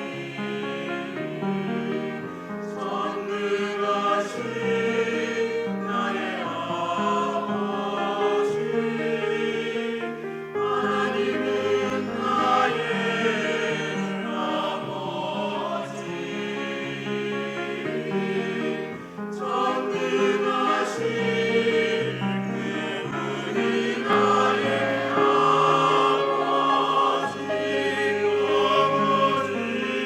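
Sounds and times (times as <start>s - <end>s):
church choir singing: 0.0s - 30.0s.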